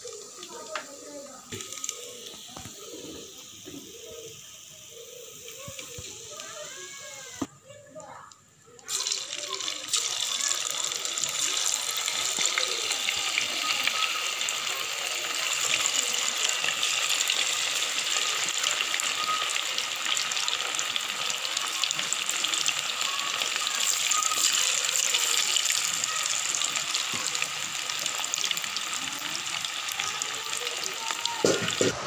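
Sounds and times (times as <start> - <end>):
chicken deep-frying in hot oil: 0.0 - 32.0.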